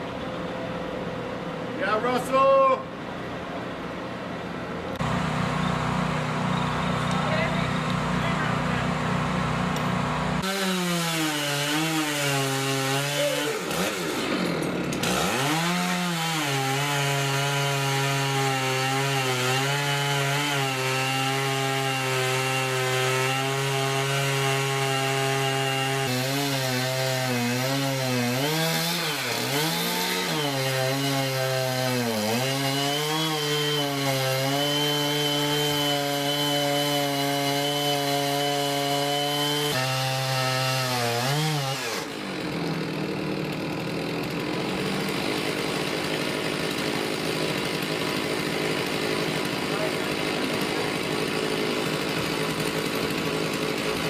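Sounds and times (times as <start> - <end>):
chainsaw cutting through wood: 5.0 - 54.0.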